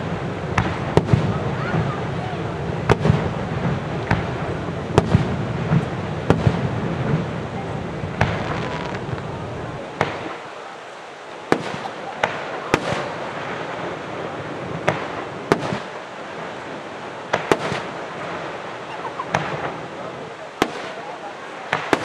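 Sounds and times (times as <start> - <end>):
crowd hum: 0.0 - 22.0.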